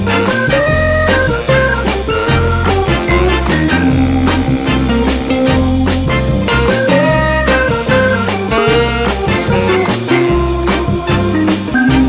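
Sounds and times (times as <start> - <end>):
upbeat swing music: 0.0 - 12.0.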